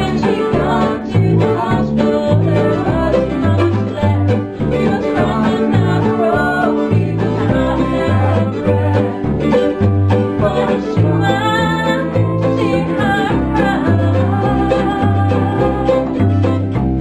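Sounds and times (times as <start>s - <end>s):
banjo picking: 0.0s - 17.0s
mandolin picking: 0.0s - 17.0s
strummed acoustic guitar: 0.0s - 17.0s
upright bass walking: 0.0s - 17.0s.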